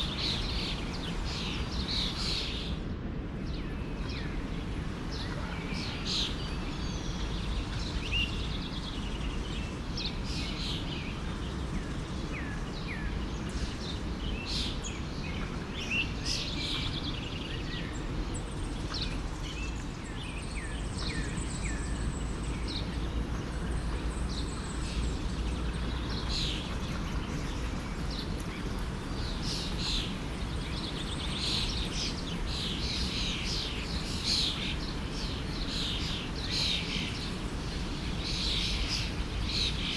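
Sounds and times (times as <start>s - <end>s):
stream running: 0.0s - 2.6s, 3.8s - 39.9s
small birds chirping: 0.0s - 2.8s, 3.4s - 39.9s.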